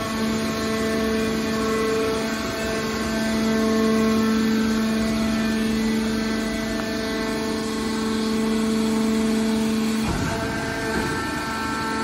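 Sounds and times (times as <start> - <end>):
hydraulic pump humming and whining: 0.0 - 12.0.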